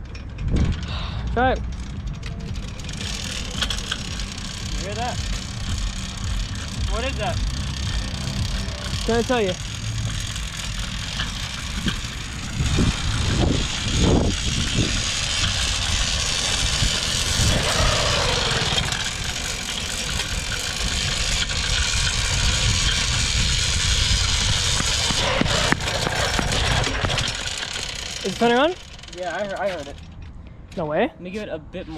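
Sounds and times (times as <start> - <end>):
two-stroke engine trying to start: 0.0 - 30.4.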